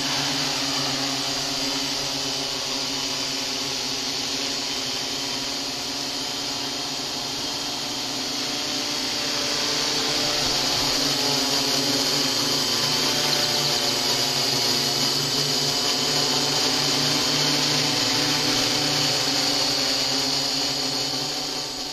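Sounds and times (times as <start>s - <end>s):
drone propellers whirring: 0.0s - 21.9s.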